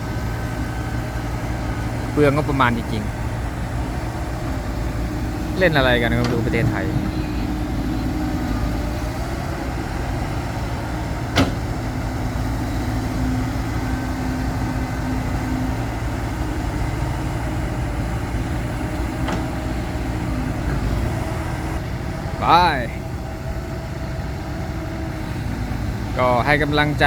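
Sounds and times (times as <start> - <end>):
heavy diesel engines running: 0.0 - 27.0.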